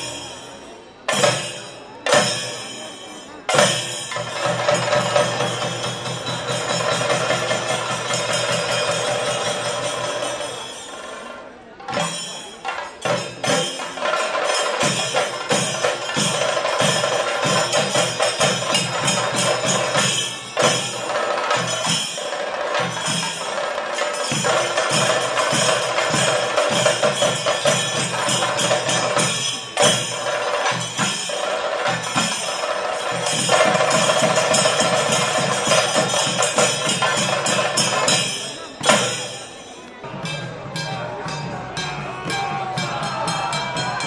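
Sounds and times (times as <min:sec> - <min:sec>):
drums struck with sticks: 0:00.0 - 0:11.0, 0:11.8 - 0:44.0
small cymbals clashing: 0:00.0 - 0:44.0.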